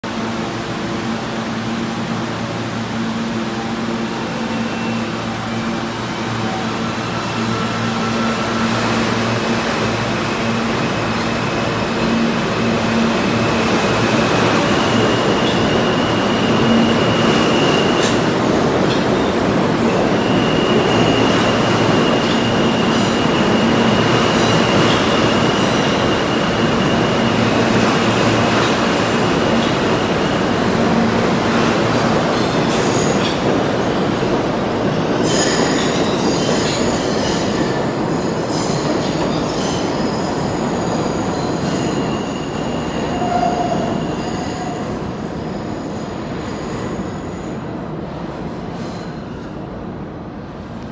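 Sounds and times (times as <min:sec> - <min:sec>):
subway train rumbling past: 0:00.0 - 0:50.9.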